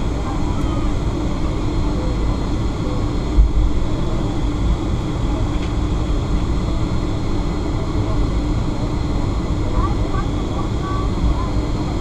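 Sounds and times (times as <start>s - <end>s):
jet engines low rumble: 0.0s - 12.0s.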